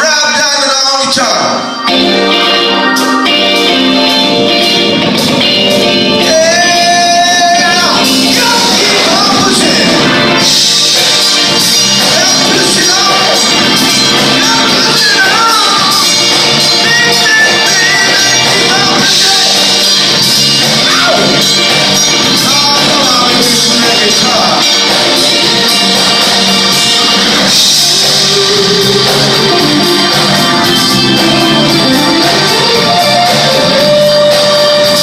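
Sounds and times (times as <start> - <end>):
electric guitar: 0.0 - 35.0
live rock band playing: 0.0 - 35.0.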